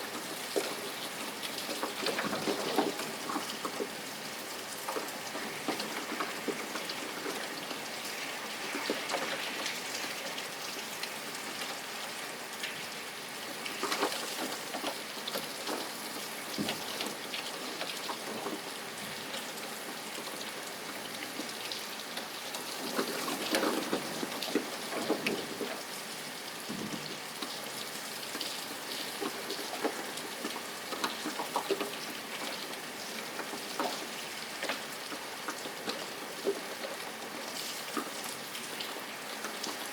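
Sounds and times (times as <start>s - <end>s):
raindrops pattering on a surface: 0.0s - 39.9s
steady rain hiss: 0.0s - 39.9s.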